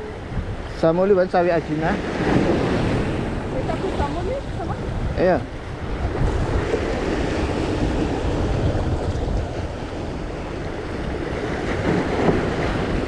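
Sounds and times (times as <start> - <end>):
sea waves washing in: 0.0 - 13.0
wind buffeting microphone: 0.0 - 13.0.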